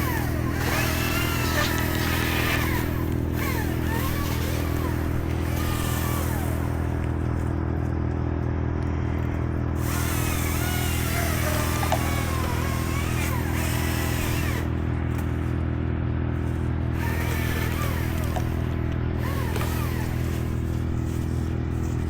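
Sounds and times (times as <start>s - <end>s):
chainsaw engine idling: 0.0s - 22.0s.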